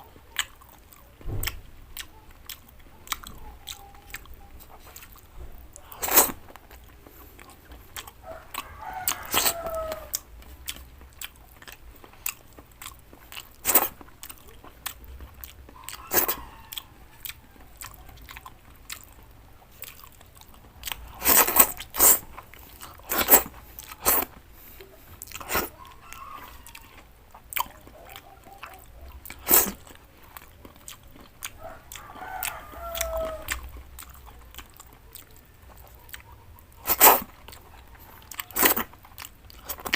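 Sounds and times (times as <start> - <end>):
chewing crunchy vegetables: 0.0 - 39.9.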